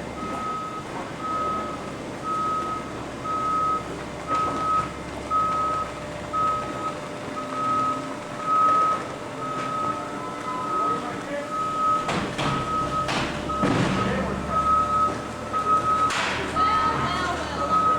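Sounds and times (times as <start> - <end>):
backup alarm beeping: 0.0 - 17.9
low machinery noise: 0.0 - 17.9.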